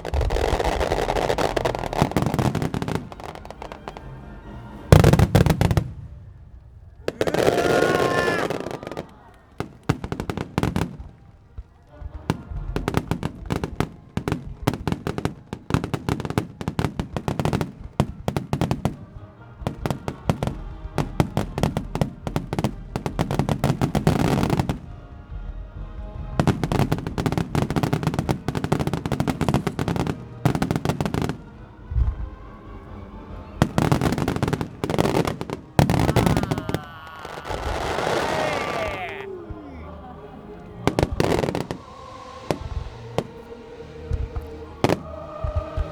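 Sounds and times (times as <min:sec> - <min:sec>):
fireworks bangs and crackles: 0:00.0 - 0:39.9, 0:40.6 - 0:45.9
music playing: 0:00.0 - 0:45.9.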